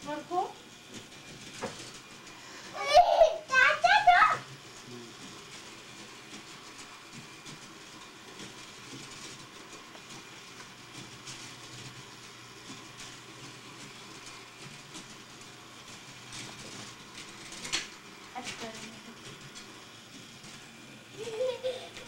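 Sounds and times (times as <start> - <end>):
toy train whirring: 0.0 - 22.0.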